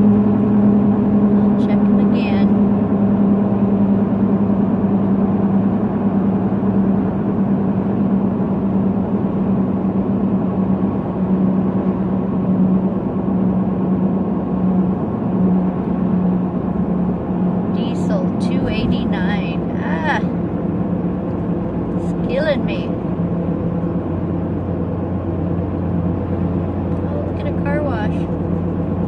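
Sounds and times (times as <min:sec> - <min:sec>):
road and tyre noise: 0:00.0 - 0:29.0
truck engine drone: 0:00.0 - 0:29.0.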